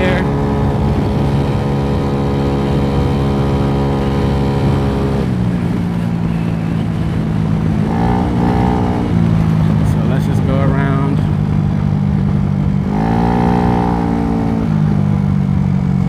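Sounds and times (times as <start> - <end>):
scooter engine at high revs: 0.0 - 16.0.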